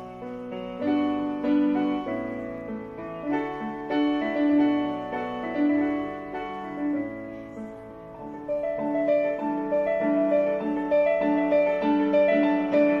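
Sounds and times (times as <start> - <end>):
piano music from a speaker: 0.0 - 13.0.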